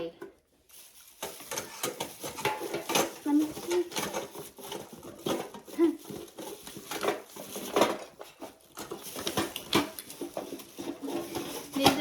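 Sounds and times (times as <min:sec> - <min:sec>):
small objects rummaged through: 0:00.0 - 0:12.0.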